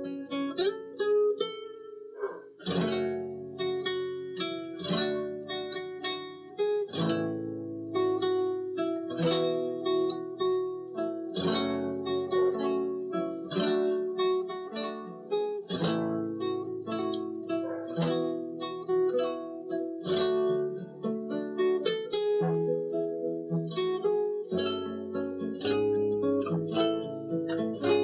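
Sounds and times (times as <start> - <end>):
picked guitar notes: 0.0 - 28.0
strummed guitar chords: 0.0 - 28.0.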